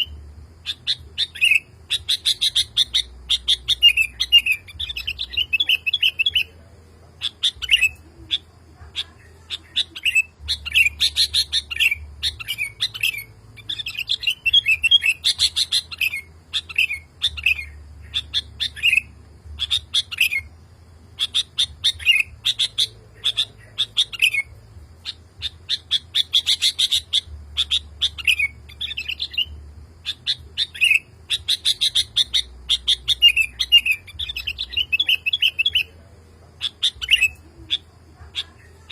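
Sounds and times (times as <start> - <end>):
bulbul singing bubbly chirps: 0.0 - 38.9.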